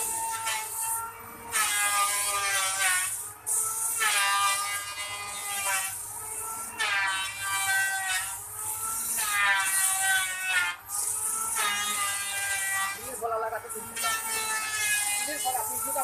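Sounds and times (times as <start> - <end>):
sandpaper rasping on turning wood: 0.0 - 16.0.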